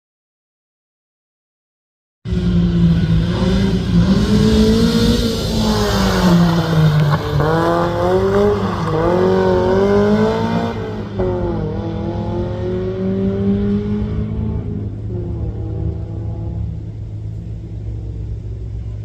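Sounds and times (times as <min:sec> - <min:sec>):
rally car engine accelerating: 0:02.3 - 0:19.0.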